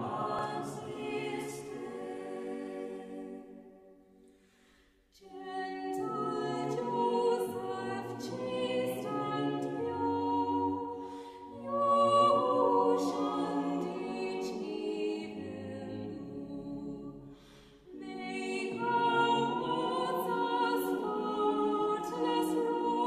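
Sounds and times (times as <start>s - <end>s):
choir singing sustained chords: 0.0s - 4.6s, 5.2s - 23.0s.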